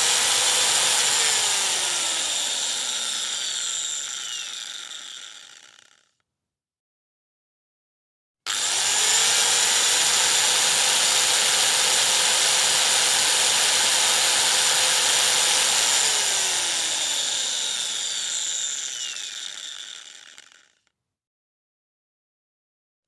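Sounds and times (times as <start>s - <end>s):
electric power drill spinning: 0.0s - 6.2s, 8.5s - 20.9s.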